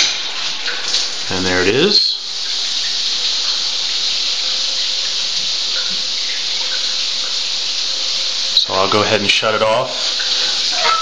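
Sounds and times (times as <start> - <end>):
shower water spraying on tiles: 0.0 - 11.0.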